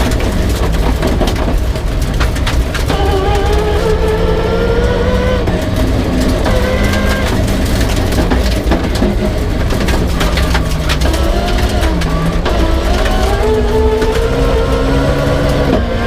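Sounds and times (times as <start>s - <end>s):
rally car engine running hard: 0.0s - 16.0s
sharp clicks and rattles: 0.0s - 16.0s.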